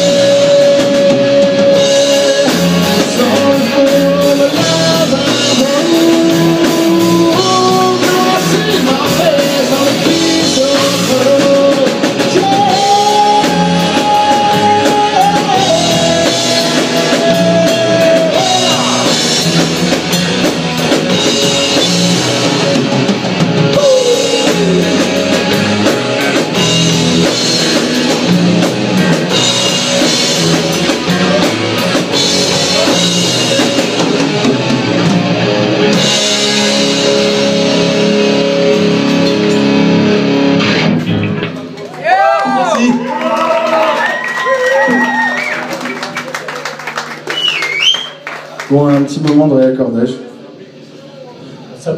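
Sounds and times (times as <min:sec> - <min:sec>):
live rock band: 0:00.0 - 0:49.8.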